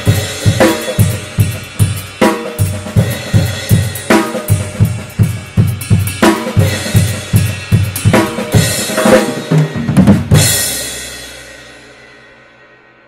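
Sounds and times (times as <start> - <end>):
drum kit beat: 0.0 - 12.3.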